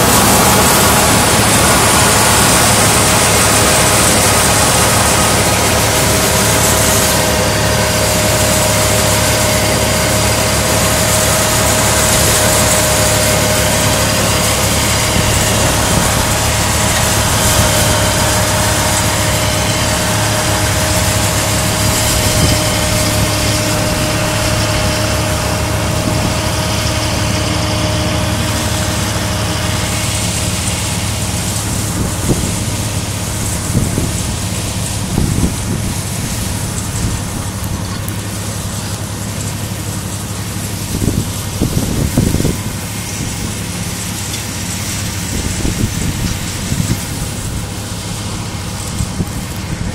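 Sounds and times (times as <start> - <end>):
tractor engine running: 0.0 - 49.9
whining tone: 0.0 - 49.9.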